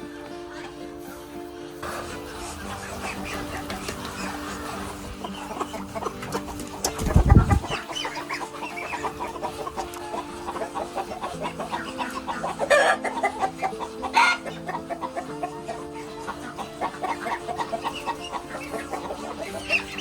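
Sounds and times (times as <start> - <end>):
background music of held notes: 0.0 - 20.0
poultry clucking and calling: 0.0 - 20.0.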